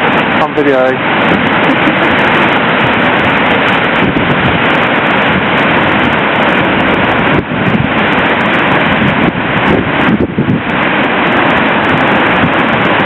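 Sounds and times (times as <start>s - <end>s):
waterfall rushing: 0.0s - 13.0s
wind buffeting microphone: 0.0s - 13.0s.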